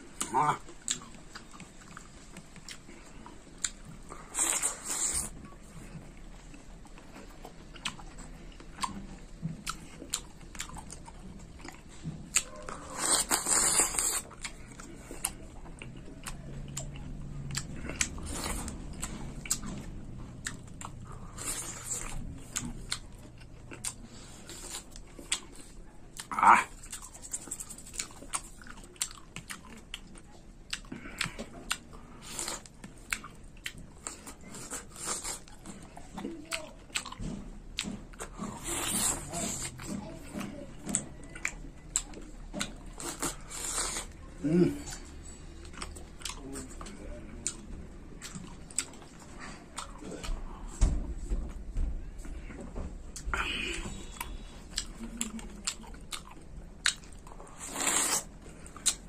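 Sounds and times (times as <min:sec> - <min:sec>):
wet chewing and mouth clicks: 0:00.0 - 0:50.5, 0:52.2 - 0:59.0.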